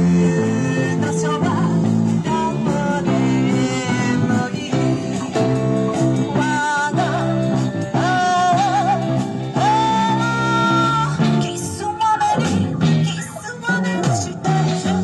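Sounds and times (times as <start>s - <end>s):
woman singing: 0.0s - 5.5s, 6.2s - 15.0s
live band playing: 0.0s - 15.0s.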